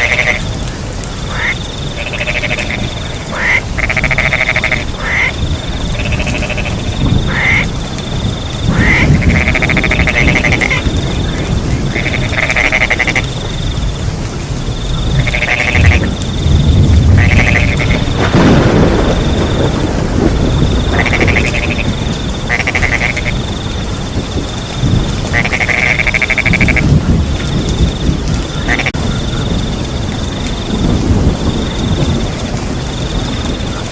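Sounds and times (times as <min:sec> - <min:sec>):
crickets trilling: 0:00.0 - 0:33.9
frogs croaking: 0:00.0 - 0:33.9
low rumble of rain: 0:00.0 - 0:33.9.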